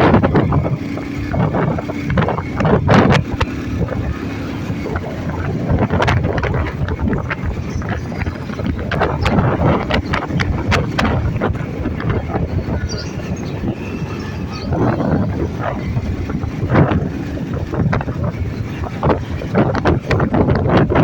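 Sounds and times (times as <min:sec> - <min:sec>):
knocks and rattles: 0:00.0 - 0:21.0
vehicle rumble: 0:00.0 - 0:21.0
wind buffeting microphone: 0:00.0 - 0:21.0.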